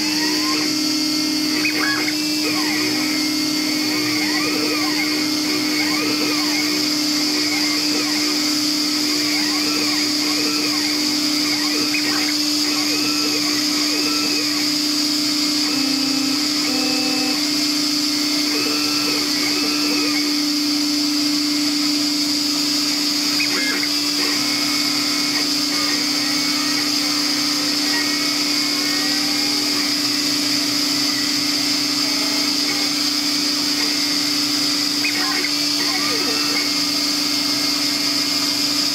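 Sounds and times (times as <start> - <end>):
stepper motors singing: 0.0 - 38.9
suction motor whine: 0.0 - 38.9.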